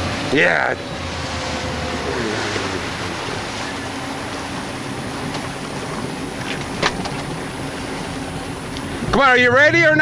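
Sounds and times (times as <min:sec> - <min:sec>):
boat engine running: 0:00.0 - 0:10.0
water wash: 0:00.0 - 0:10.0.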